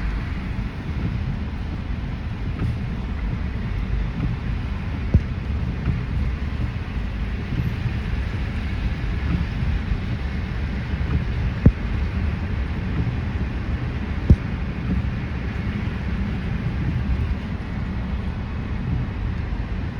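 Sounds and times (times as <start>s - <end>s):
road and engine rumble in car: 0.0s - 19.9s.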